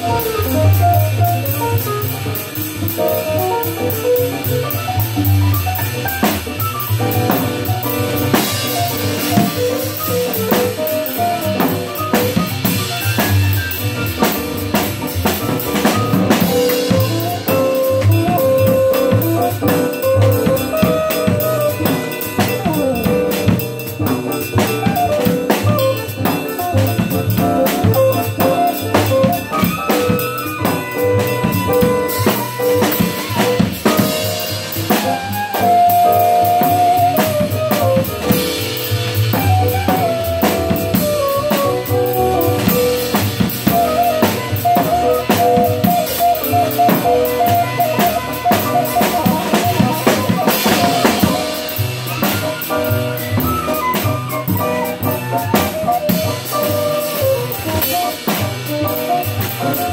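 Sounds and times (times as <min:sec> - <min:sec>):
drum kit playing a groove: 0:00.0 - 0:59.9
recorded music with melody: 0:00.0 - 0:59.9.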